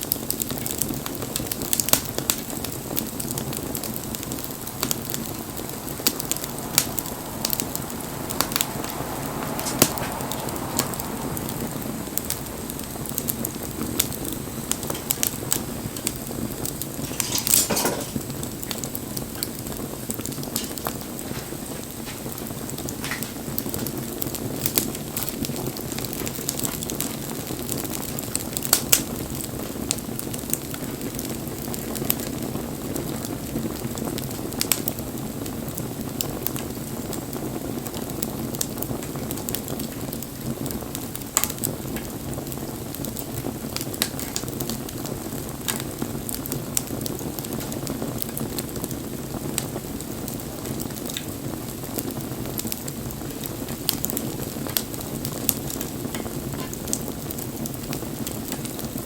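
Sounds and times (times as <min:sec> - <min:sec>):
bonfire flames rushing: 0:00.0 - 0:59.0
fire crackling and popping: 0:00.0 - 0:59.0.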